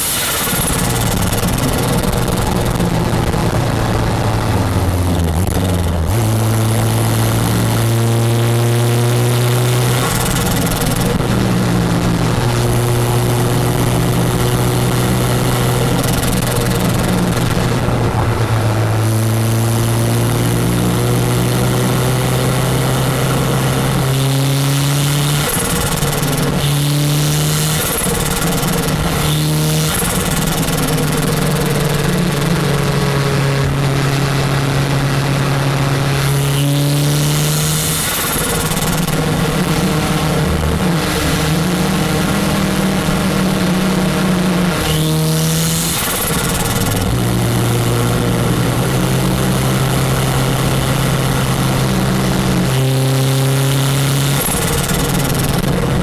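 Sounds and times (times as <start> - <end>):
turbo car engine accelerating: 0.0 - 56.0.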